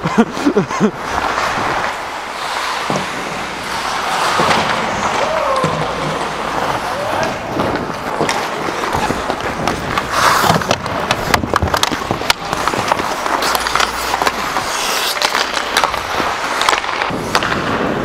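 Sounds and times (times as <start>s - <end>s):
hockey sticks clicking: 0.0s - 18.0s
ice skate blades scraping: 0.0s - 18.0s.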